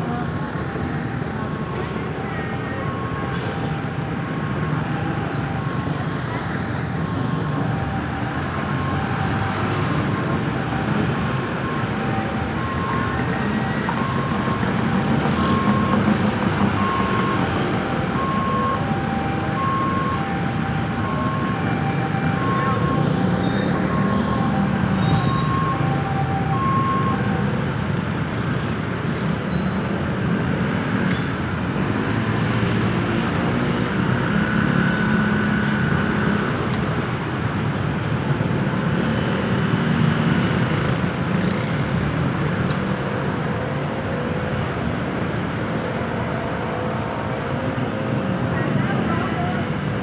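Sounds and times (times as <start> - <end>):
road traffic noise: 0.0 - 50.0.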